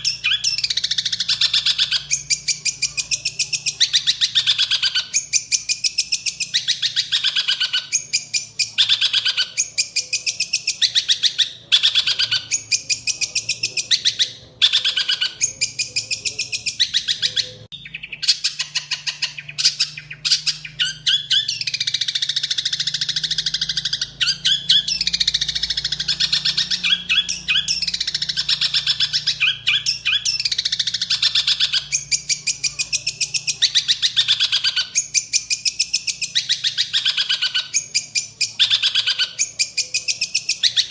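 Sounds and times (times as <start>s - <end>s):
shrike harsh chattering song: 0.0s - 40.9s.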